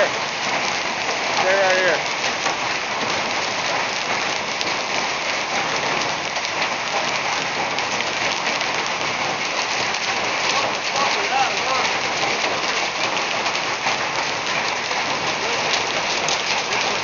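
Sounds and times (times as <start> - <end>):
heavy rain and hail on road: 0.0 - 17.0.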